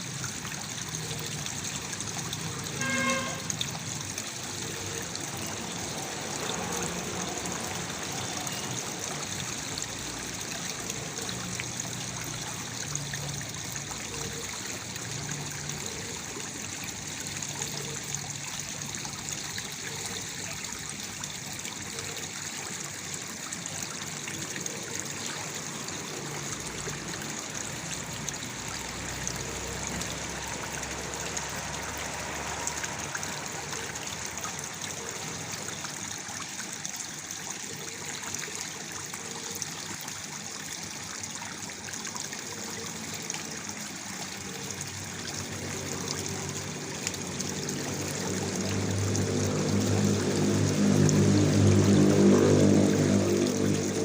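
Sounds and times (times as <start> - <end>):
waterfall pouring into a pool: 0.0 - 54.0.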